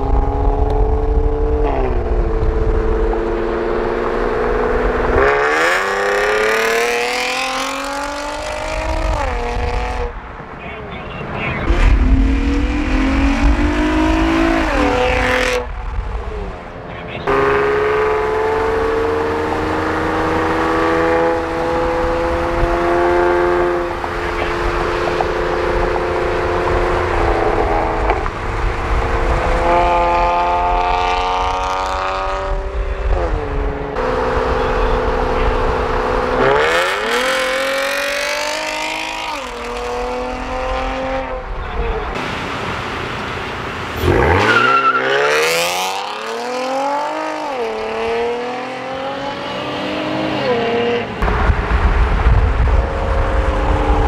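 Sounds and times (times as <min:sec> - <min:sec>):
car engine accelerating: 0:00.0 - 0:10.4, 0:11.4 - 0:42.4, 0:43.2 - 0:54.0.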